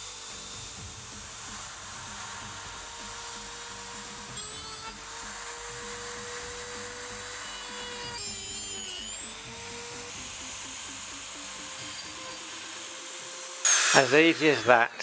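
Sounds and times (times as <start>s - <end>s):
rotary tool whining cutting metal: 0.0s - 15.0s.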